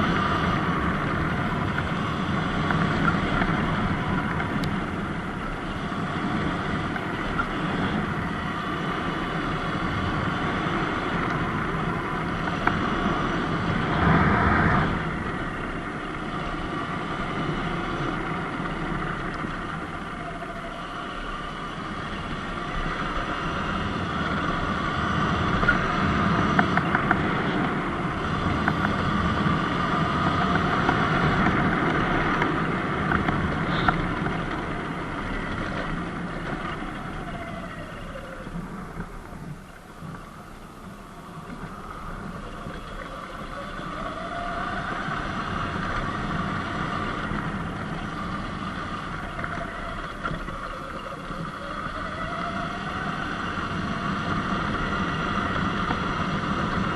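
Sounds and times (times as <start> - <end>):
electric motor whine: 0.0 - 56.9
wind on microphone: 0.0 - 56.9.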